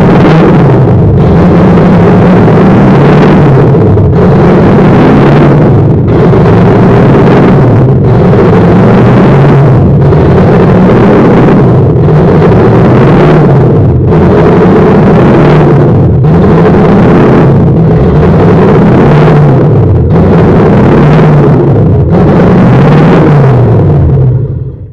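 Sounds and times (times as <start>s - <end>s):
engine revving loud: 0.0s - 24.9s.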